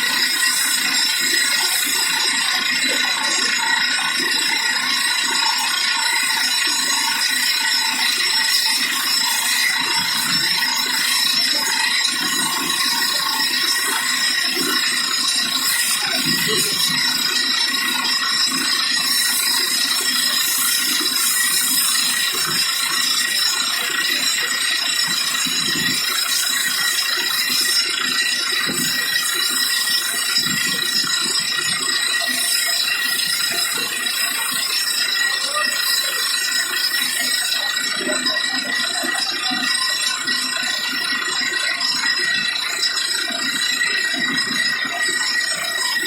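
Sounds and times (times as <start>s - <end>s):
drilling rig mechanical rattle: 0.0s - 46.0s.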